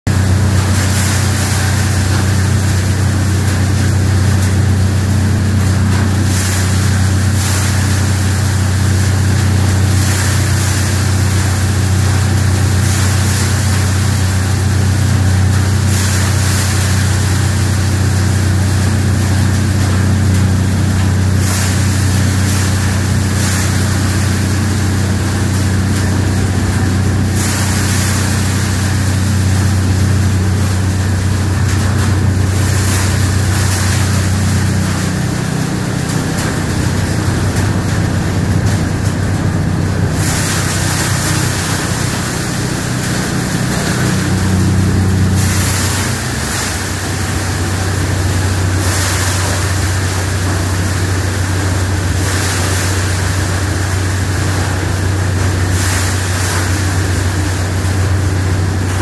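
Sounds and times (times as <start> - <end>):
cleaning machine droning: 0.1 - 59.0.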